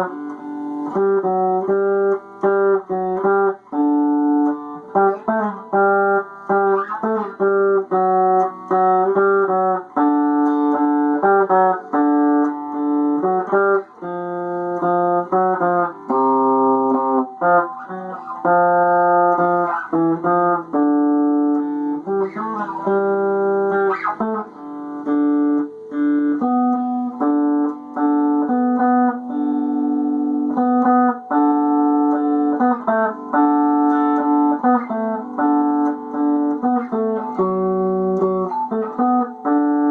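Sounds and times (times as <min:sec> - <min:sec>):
guitar playing chords: 0:00.0 - 0:39.9.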